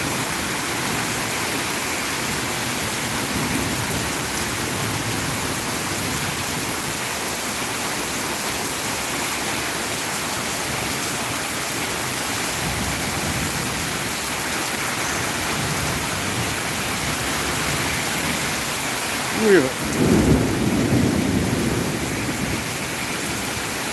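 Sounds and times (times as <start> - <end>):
heavy rain on a street: 0.0 - 23.9.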